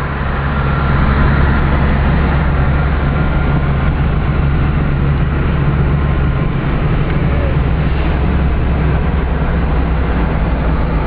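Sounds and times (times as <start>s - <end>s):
bus engine running: 0.0s - 11.0s
road noise: 0.0s - 11.0s.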